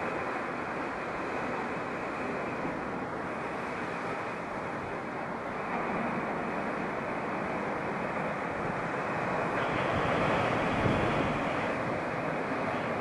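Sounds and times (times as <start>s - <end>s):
sea surf breaking on rocks: 0.0s - 13.0s
wind on microphone: 0.0s - 13.0s.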